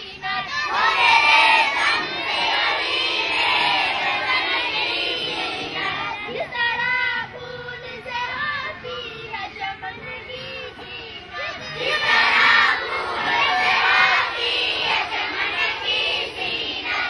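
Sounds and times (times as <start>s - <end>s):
girls singing in unison: 0.0s - 17.0s
solo girl's voice singing: 0.0s - 17.0s.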